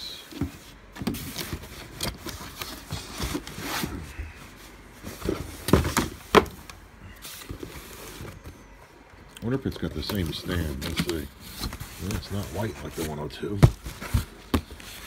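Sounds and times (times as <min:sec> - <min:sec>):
cardboard rustling and scraping: 0:00.2 - 0:08.7, 0:09.8 - 0:15.0.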